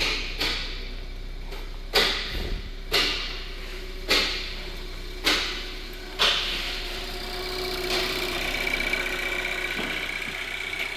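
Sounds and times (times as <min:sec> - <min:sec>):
car engine idling: 0:00.0 - 0:10.9
high whine from engine bay: 0:00.0 - 0:10.9.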